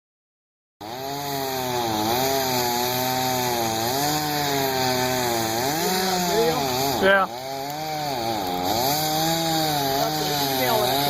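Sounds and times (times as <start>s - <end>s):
chainsaw cutting wood: 0.8s - 11.0s.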